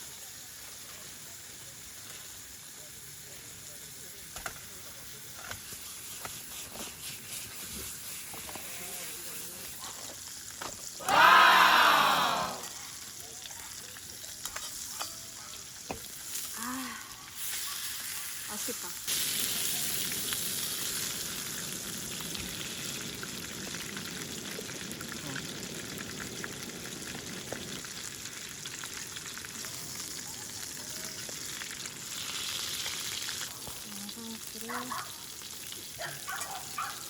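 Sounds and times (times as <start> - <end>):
meat sizzling in hot fat: 0.0 - 37.0.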